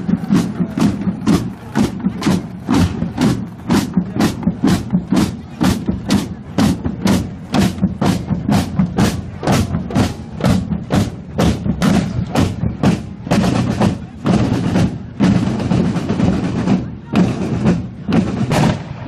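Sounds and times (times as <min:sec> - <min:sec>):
deep drum: 0:00.0 - 0:18.9
marching drums beating: 0:00.0 - 0:19.0.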